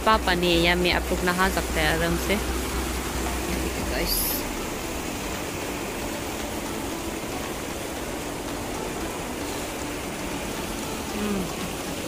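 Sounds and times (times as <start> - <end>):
stream rushing over stones: 0.0 - 12.0.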